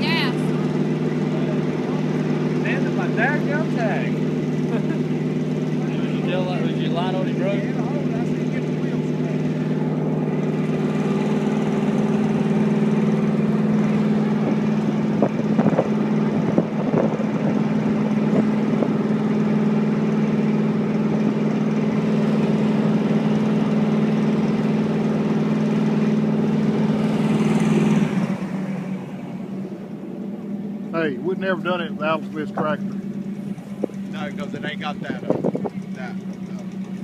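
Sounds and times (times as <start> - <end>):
engine running under load: 0.0 - 37.0.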